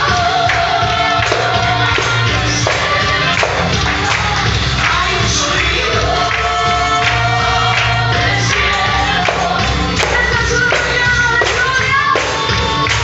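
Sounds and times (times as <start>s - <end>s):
choir singing worship song: 0.0s - 12.9s
band with bass: 0.0s - 13.0s.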